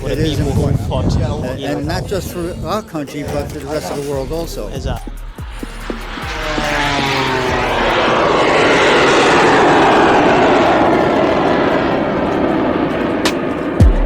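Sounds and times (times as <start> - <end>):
aircraft flying past: 0.0 - 14.0.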